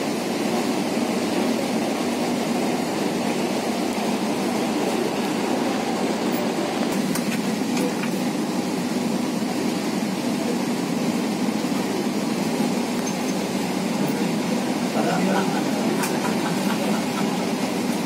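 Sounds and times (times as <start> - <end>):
train rolling rumble and hiss: 0.0 - 18.0.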